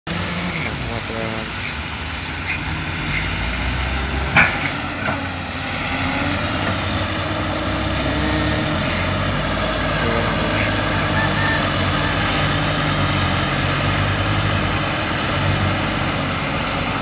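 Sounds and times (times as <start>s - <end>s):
truck engine idling: 0.1s - 17.0s.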